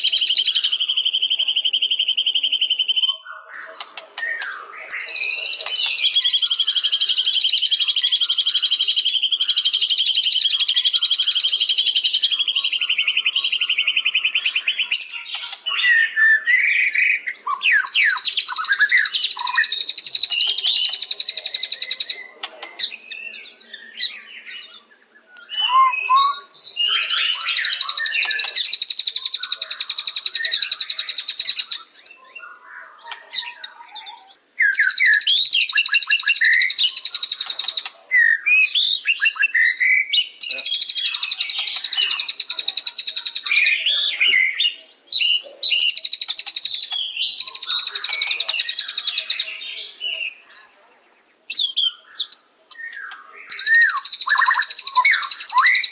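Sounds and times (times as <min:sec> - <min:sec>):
bird singing whistles and chatter: 0:00.0 - 0:55.9.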